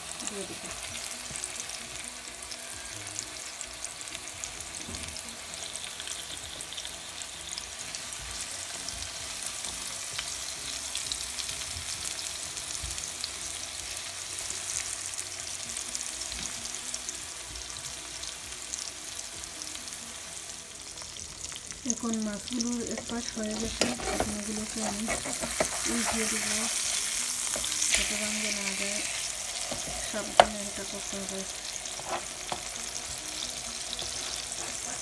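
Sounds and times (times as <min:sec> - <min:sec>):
fish sizzling in a pan: 0:00.0 - 0:35.0.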